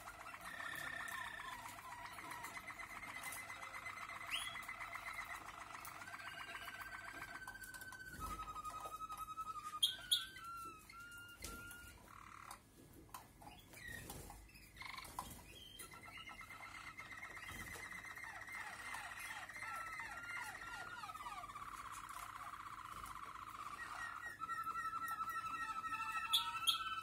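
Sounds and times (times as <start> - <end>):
canaries singing trills: 0.0 - 27.0.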